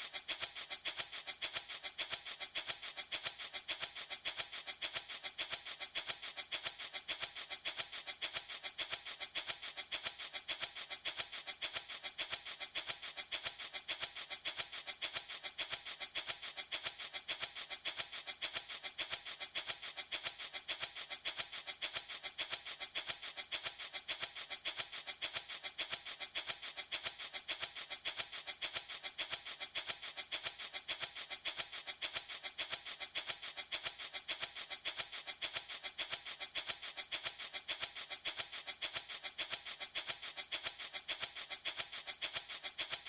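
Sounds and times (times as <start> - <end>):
baby rattle shaken: 0.0 - 43.0.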